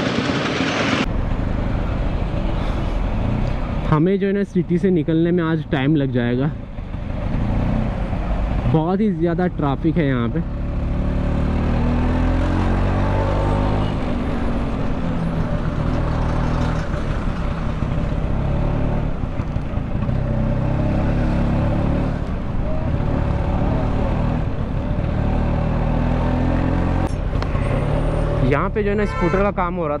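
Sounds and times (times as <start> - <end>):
traffic noise: 1.0 - 30.0.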